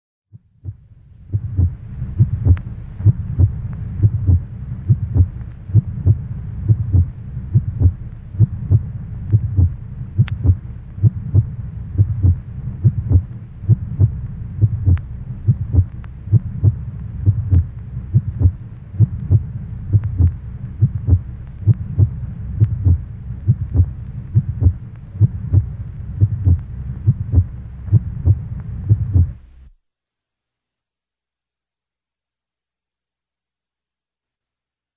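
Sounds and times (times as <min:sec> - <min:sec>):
heartbeat: 0:00.4 - 0:29.4
low steady hum: 0:00.4 - 0:29.8.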